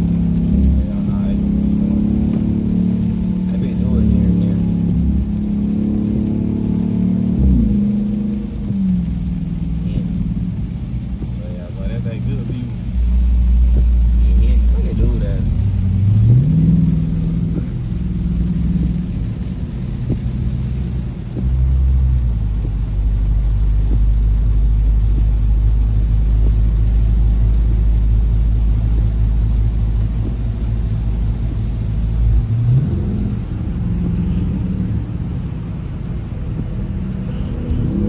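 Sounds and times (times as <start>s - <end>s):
car engine drone: 0.0s - 38.0s.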